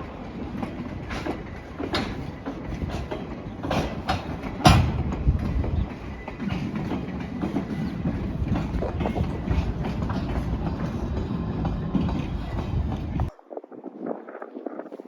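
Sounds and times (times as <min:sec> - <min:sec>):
train wheels clicking over rail joints: 0:00.0 - 0:13.3
train rumble: 0:00.0 - 0:13.4.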